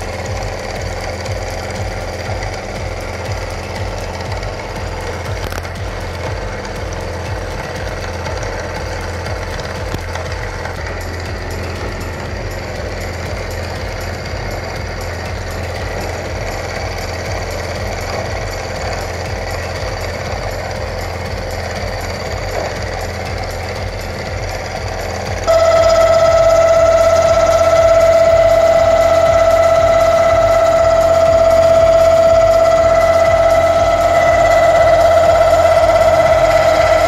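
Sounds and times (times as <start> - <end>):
milling machine cutting steel: 0.0 - 37.0.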